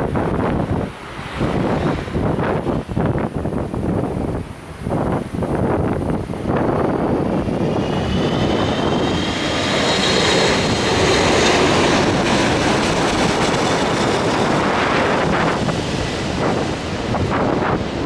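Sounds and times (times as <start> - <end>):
high fan whine: 0.0 - 18.0
jet airliner engine roar: 0.0 - 18.0.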